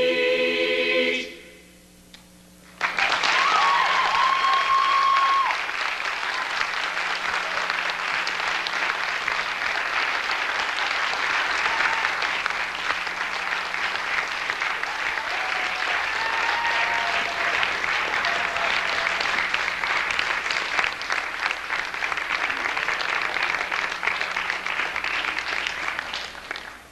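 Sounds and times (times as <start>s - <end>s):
audience applauding: 2.7s - 26.9s.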